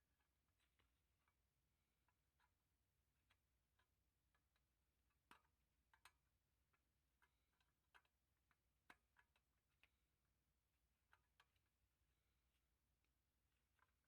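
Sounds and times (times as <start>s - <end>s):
faint light clicks and taps: 0.1s - 14.0s.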